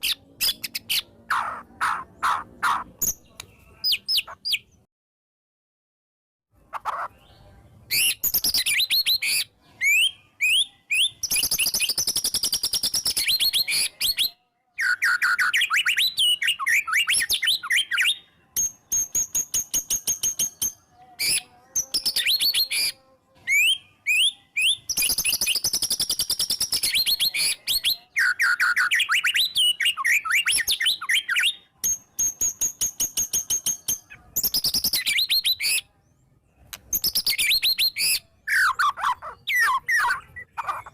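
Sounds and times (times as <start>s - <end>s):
songbird singing: 0.0s - 4.9s, 6.6s - 40.9s.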